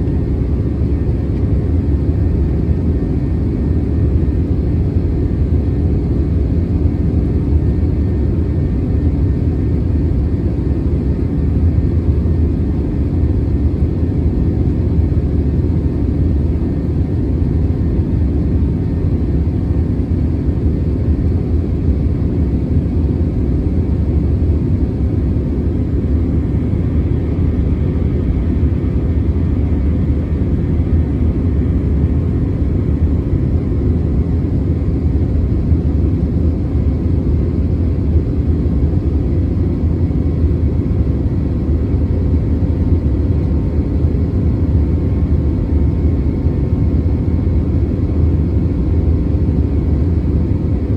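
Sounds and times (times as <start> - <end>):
jet engines and airflow rumble: 0.0 - 50.9.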